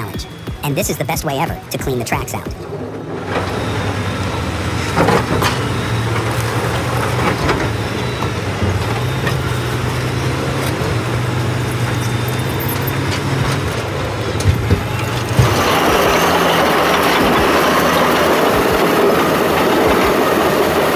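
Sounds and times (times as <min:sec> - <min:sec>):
diesel engine running under load: 0:00.0 - 0:20.9.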